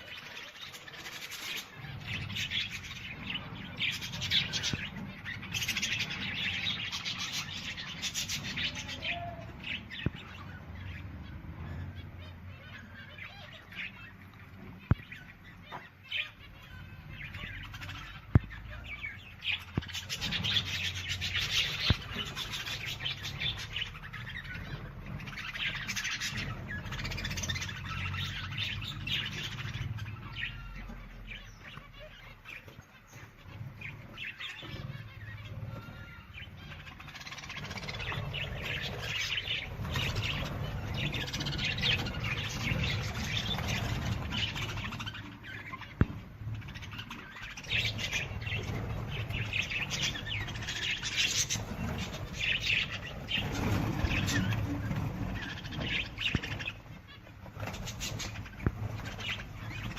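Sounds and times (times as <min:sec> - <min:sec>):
birds chirping and calling: 0:00.0 - 0:59.9.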